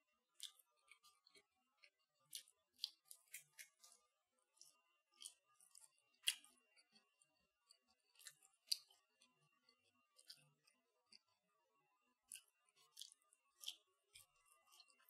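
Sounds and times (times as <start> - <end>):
crunchy chewing: 0.4 - 11.4, 12.3 - 15.0.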